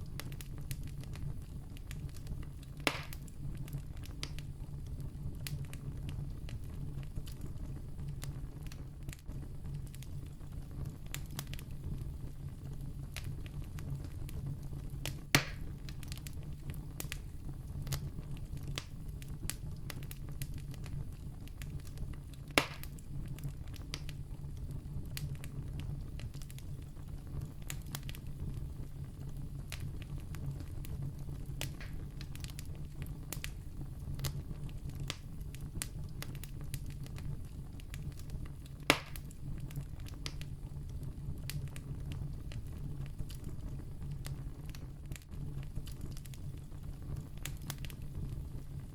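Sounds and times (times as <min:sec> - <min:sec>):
campfire crackling: 0:00.0 - 0:48.9.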